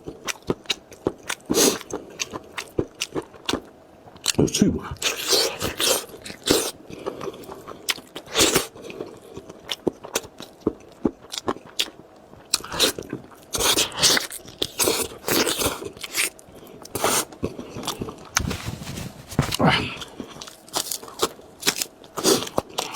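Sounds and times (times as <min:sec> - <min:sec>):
crunchy chewing: 0:00.1 - 0:22.9.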